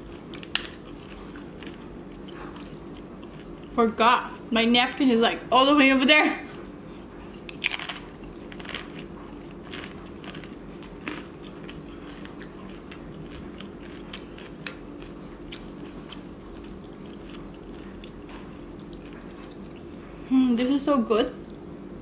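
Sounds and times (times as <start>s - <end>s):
crunchy chewing: 0.0s - 4.4s, 6.6s - 20.2s.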